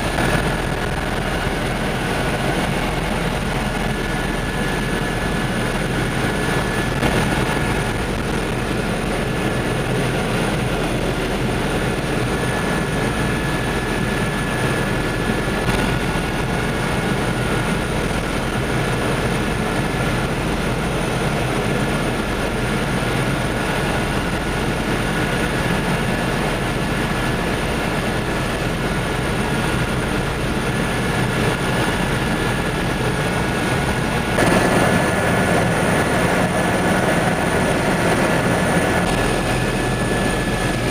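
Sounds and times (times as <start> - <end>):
helicopter rotor and turbine drone: 0.0 - 40.9.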